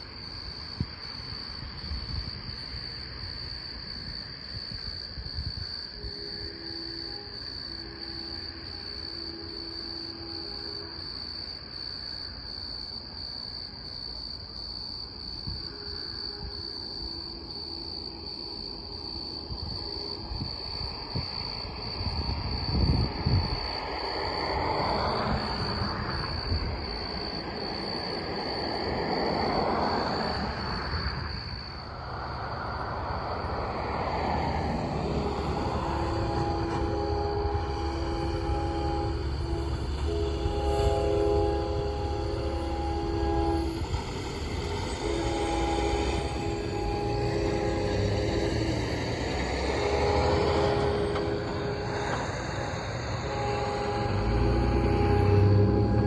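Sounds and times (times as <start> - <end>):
distant freight train rumbling: 0.0 - 56.0
insects droning: 0.0 - 56.0
distant locomotive air horn: 5.4 - 13.2, 15.4 - 56.0.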